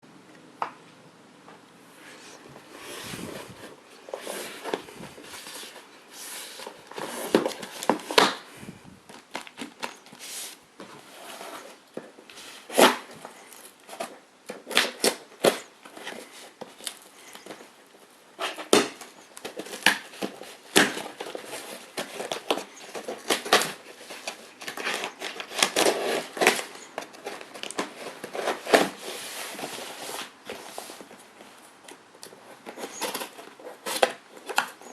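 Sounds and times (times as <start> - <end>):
packaging rustling and crinkling: 2.3 - 34.9.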